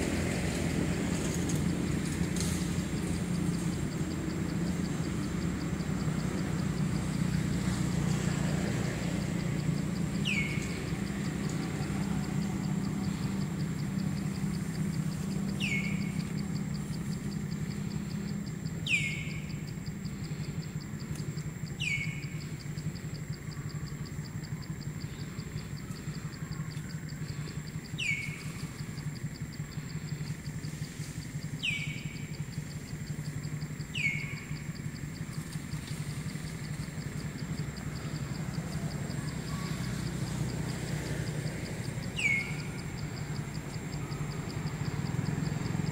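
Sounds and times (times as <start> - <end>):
distant low engine hum: 0.0 - 45.9.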